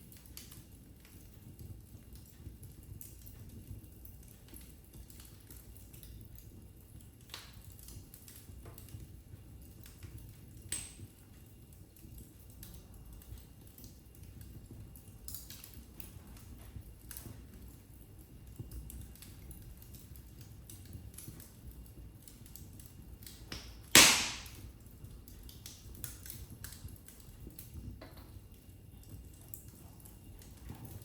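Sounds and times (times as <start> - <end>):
fire crackles and pops: 0.0 - 31.0
fire rumbling: 0.0 - 31.0.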